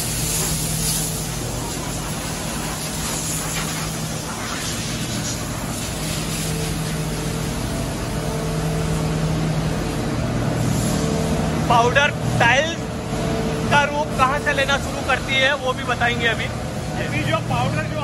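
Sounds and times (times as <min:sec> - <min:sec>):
continuous noisy wash: 0:00.0 - 0:18.0
machinery hum: 0:00.0 - 0:18.0.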